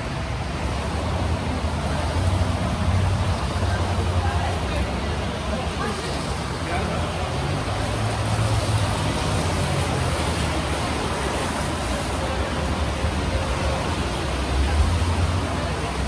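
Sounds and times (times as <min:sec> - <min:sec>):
vehicle road and engine noise: 0:00.0 - 0:16.0.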